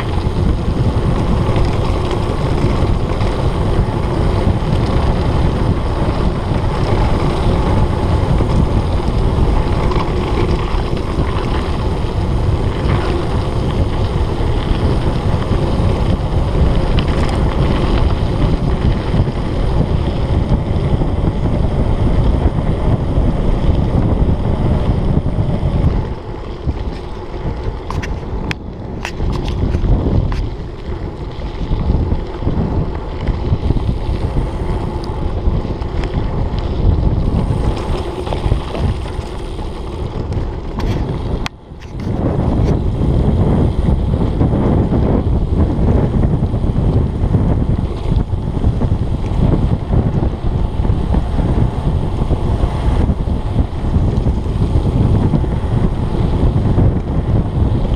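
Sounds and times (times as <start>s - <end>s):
bike tyres and frame rattling: 0.0s - 57.9s
wind rushing over microphone: 0.0s - 57.9s.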